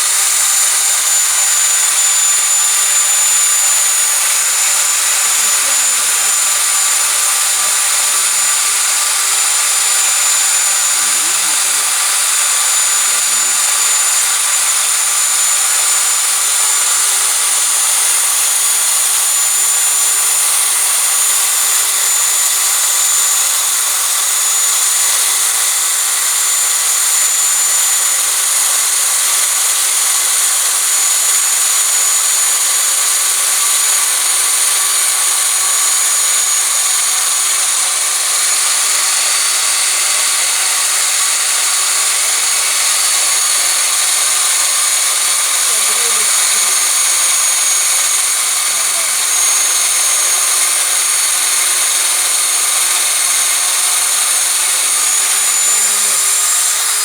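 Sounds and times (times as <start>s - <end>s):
milling cutter cutting metal: 0.0s - 57.0s.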